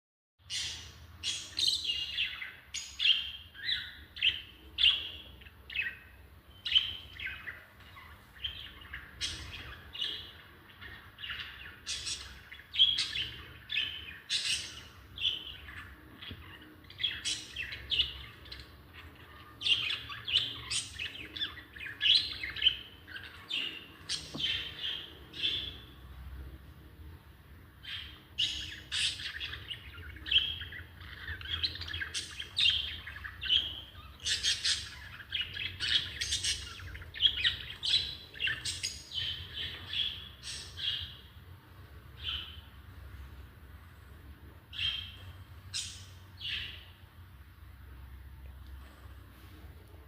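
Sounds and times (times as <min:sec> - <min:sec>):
lovebirds chirping: 0:00.4 - 0:50.0.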